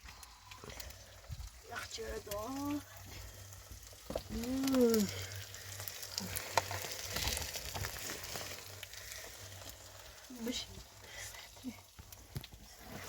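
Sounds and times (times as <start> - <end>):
sizzling crackle: 0.0 - 13.0.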